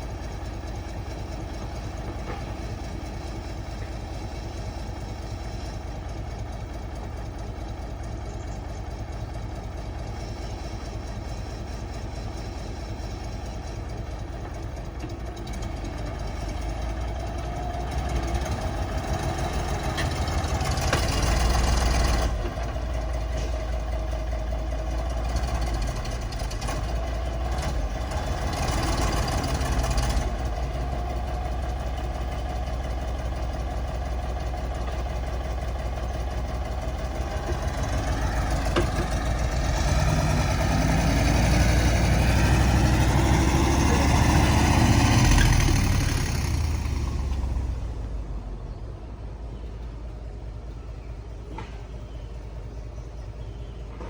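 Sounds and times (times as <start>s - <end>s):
heavy machine diesel engine: 0.0s - 54.0s.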